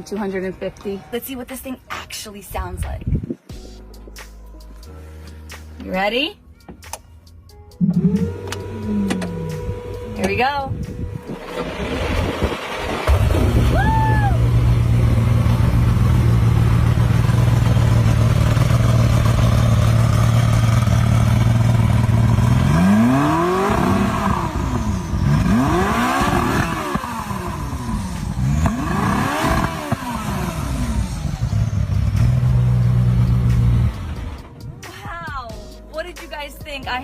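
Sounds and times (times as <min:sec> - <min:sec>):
car engine idling and revving: 0:04.2 - 0:37.0.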